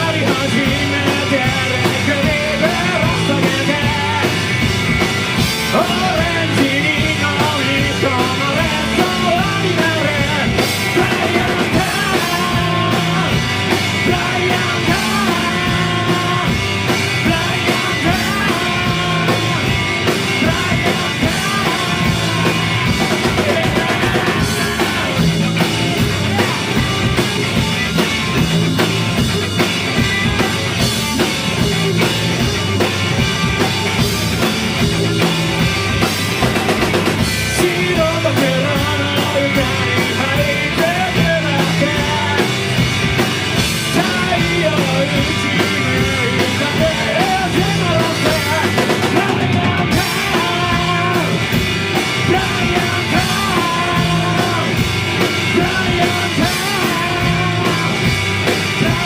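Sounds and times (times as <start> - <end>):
distorted electric guitars: 0.0 - 59.0
drum kit beating: 0.0 - 59.0
rock band playing live: 0.0 - 59.0.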